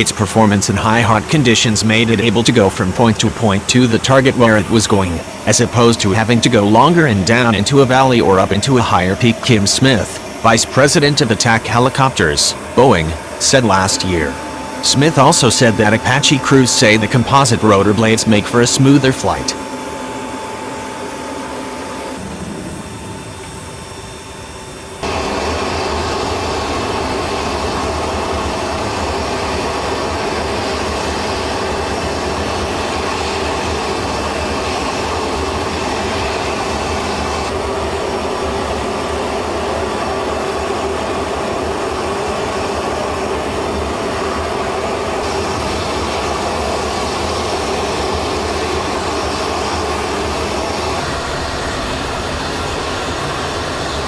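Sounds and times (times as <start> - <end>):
aircraft engine noise: 0.0 - 54.0.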